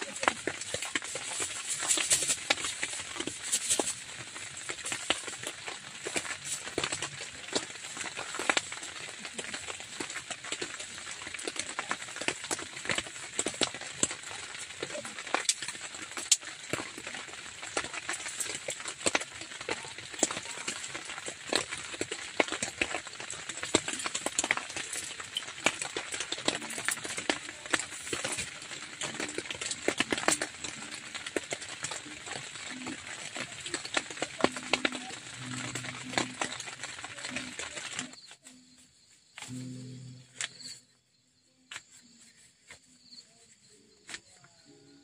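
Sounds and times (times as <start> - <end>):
drizzle pattering on a tent: 0.0 - 40.9.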